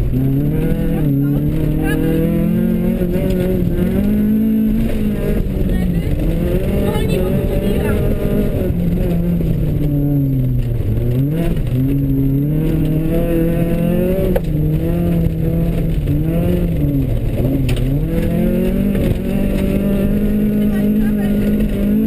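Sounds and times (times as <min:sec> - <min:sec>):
rally car engine: 0:00.0 - 0:22.0.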